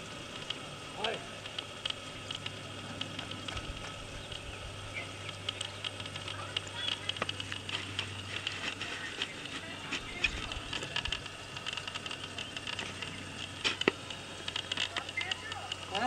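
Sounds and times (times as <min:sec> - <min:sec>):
faint high hum: 0:00.0 - 0:16.0
clicks and crunches on gravel: 0:00.2 - 0:16.0.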